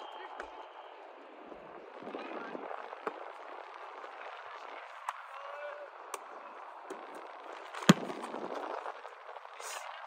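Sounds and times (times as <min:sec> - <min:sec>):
open-air pitch ambience: 0:00.0 - 0:10.0.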